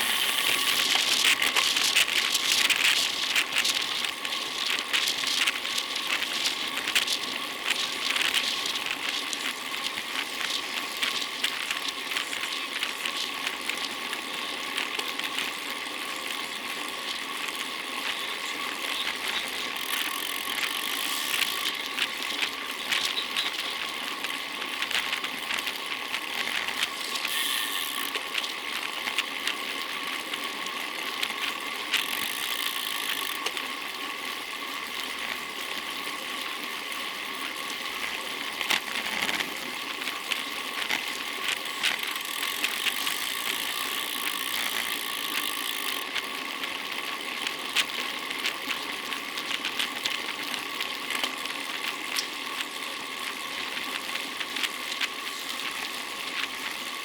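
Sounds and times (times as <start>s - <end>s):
bicycle tyre road noise: 0.0s - 57.0s
bike clicks and rattles: 0.0s - 57.0s.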